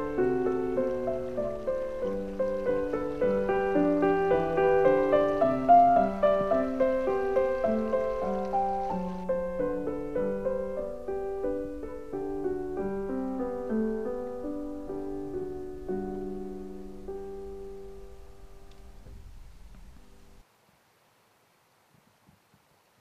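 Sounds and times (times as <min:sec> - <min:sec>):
gentle piano melody: 0:00.0 - 0:20.4.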